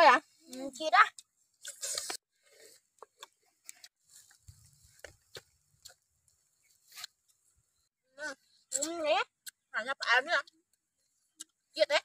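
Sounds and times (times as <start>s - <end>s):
people chewing food: 0.4s - 7.6s, 8.5s - 12.0s.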